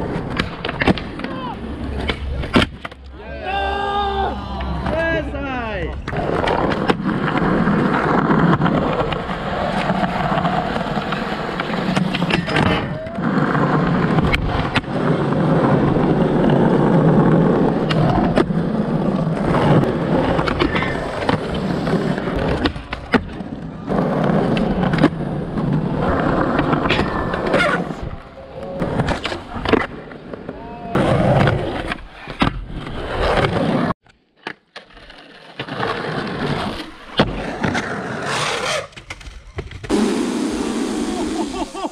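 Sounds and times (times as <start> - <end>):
skateboard wheels rolling: 0.0 - 41.9.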